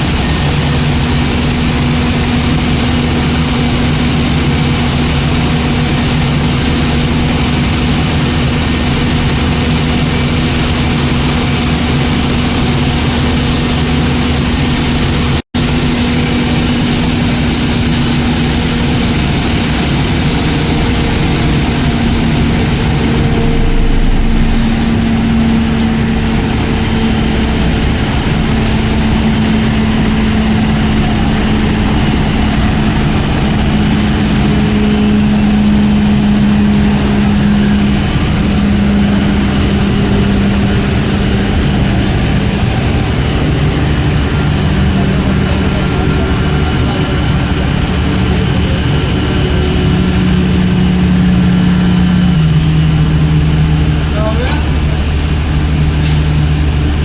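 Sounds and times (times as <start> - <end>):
industrial machine drone: 0.0 - 57.0
machine hiss: 0.0 - 57.0.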